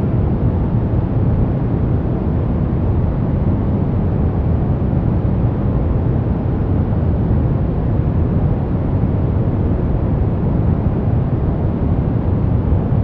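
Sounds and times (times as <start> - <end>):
brown noise rumbling hiss: 0.0 - 13.0.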